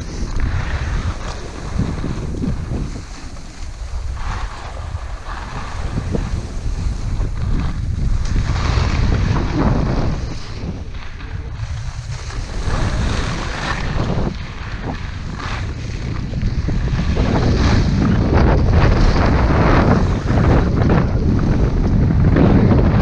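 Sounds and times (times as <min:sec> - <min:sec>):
skis sliding on snow: 0:00.0 - 0:23.0
wind buffeting microphone: 0:00.0 - 0:23.0.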